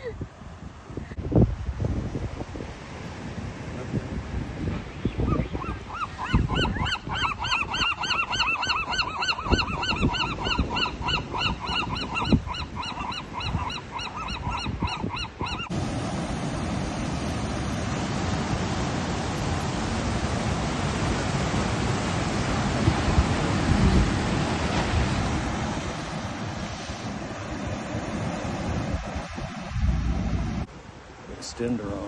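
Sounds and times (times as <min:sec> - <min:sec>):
wind rumbling: 0:00.0 - 0:31.3.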